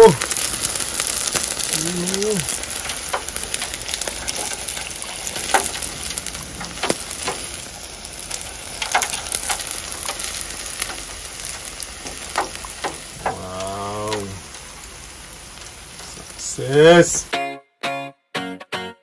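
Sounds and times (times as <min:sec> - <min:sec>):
oil popping and crackling: 0:00.0 - 0:17.1
hot oil sizzling on pork skin: 0:00.0 - 0:17.4.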